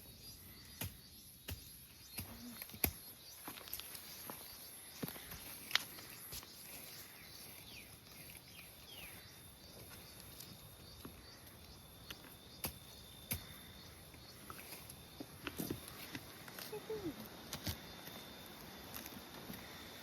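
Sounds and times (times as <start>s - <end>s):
insect hiss: 0.0s - 20.0s.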